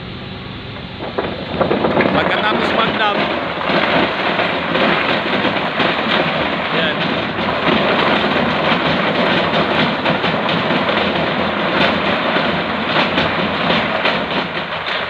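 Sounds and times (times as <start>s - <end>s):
boulders tumbling down rocks: 0.9s - 15.0s.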